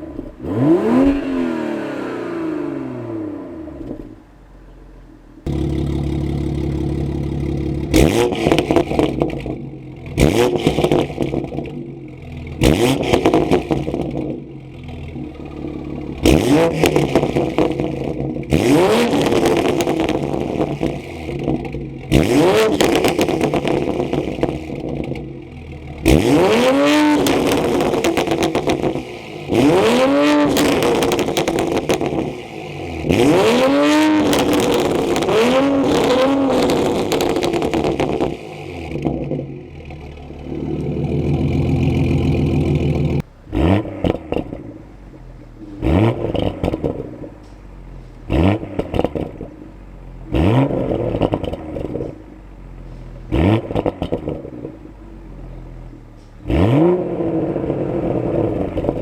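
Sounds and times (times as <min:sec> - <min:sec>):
car engine idling: 0:00.0 - 0:59.0
car engine revving: 0:00.0 - 0:59.0.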